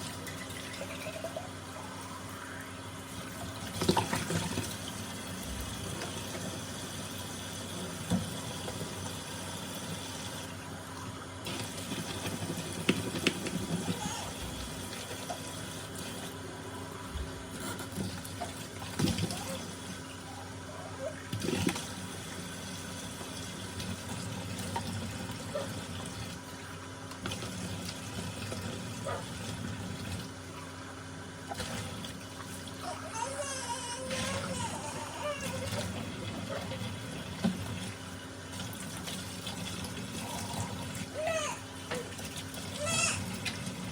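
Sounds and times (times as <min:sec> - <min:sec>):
tap water running into sink: 0:03.1 - 0:16.4, 0:17.1 - 0:20.2, 0:21.2 - 0:30.8, 0:31.4 - 0:43.9.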